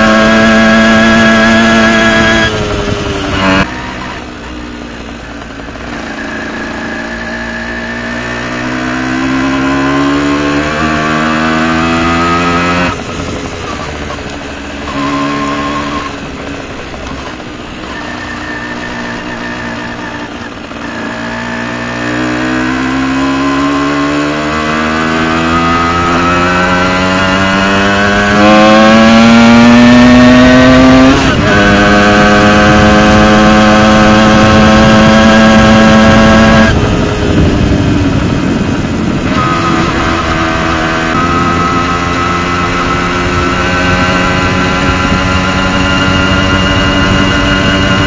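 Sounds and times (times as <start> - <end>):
moped engine revving: 0.0 - 48.0.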